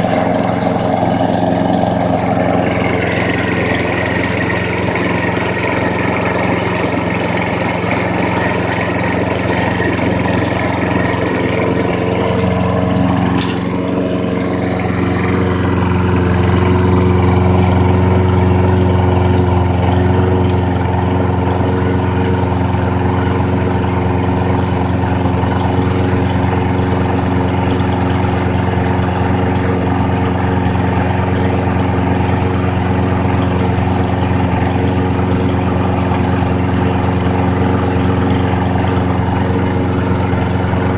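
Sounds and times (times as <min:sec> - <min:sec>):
small lawnmower engine running: 0:00.0 - 0:40.9.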